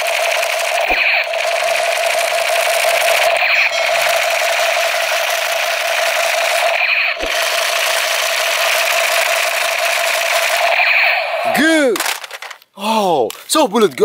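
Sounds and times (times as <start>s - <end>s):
electronic toy blaster effect: 0.0s - 12.4s.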